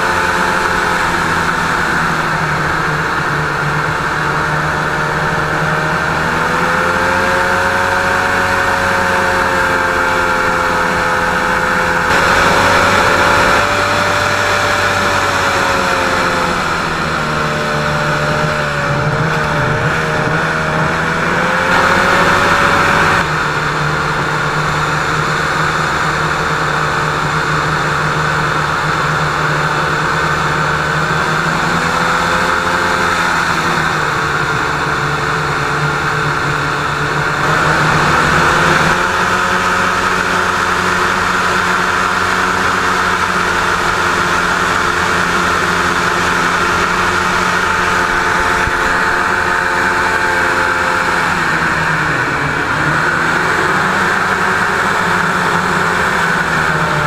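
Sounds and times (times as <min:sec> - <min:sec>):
hovercraft engine and fan droning: 0:00.0 - 0:57.0.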